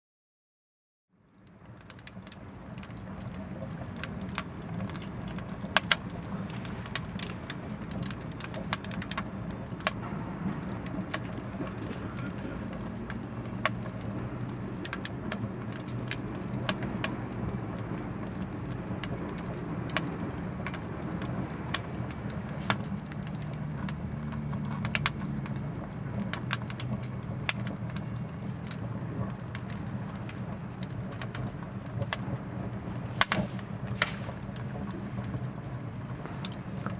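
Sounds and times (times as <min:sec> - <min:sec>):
low rush of flame: 0:01.2 - 0:36.9
wood crackling and popping: 0:01.3 - 0:36.9.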